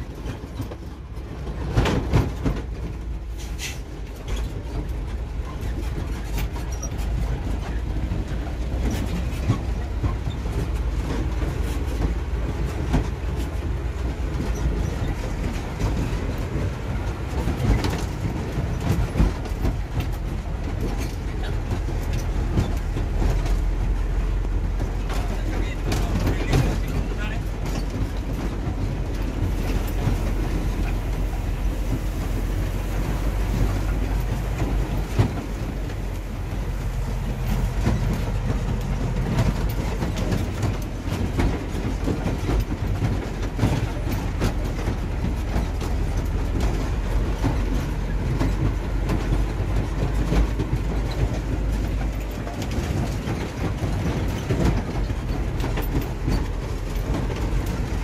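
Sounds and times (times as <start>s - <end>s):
low engine rumble: 0.0s - 58.0s
truck cab rattling and knocking: 0.0s - 58.0s.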